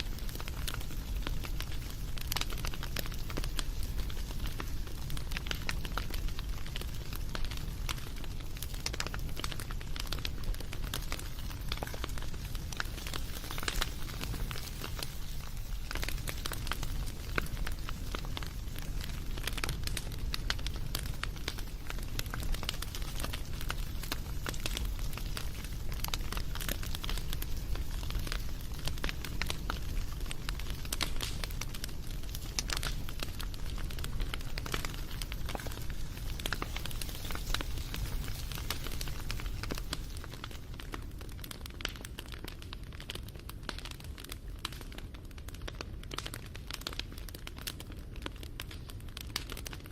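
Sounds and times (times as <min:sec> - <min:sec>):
campfire crackling and popping: 0:00.0 - 0:49.9
low rumble of flames: 0:00.0 - 0:49.9.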